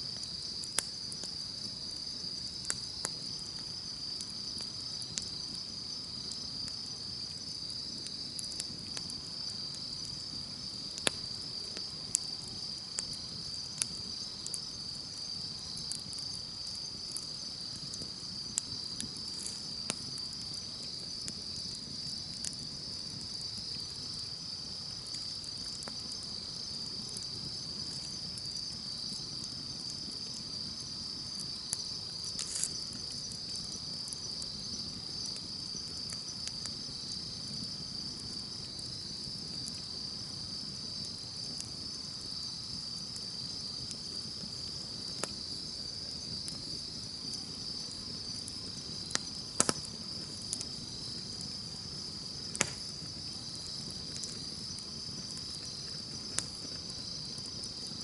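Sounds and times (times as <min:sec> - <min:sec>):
campfire hiss: 0:00.0 - 0:58.0
insects trilling: 0:00.0 - 0:58.0
burning wood popping: 0:00.3 - 0:40.0, 0:41.4 - 0:58.0.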